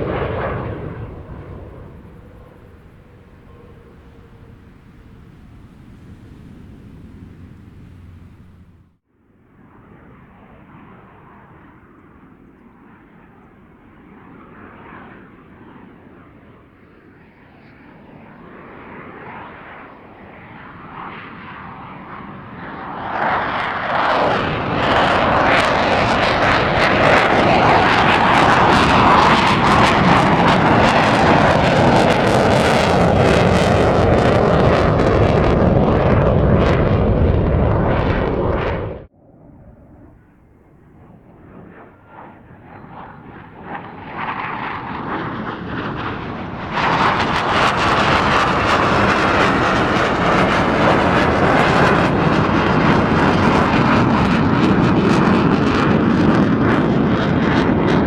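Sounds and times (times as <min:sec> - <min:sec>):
fighter jet engine roaring: 0:00.0 - 0:58.0.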